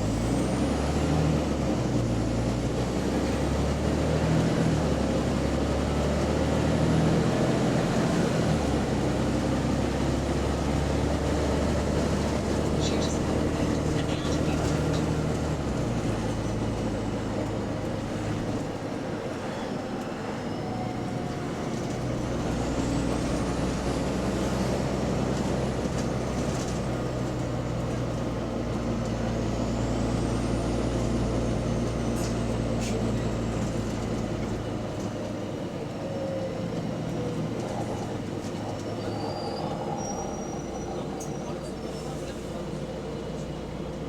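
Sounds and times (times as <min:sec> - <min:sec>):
bus engine running: 0:00.0 - 0:44.0.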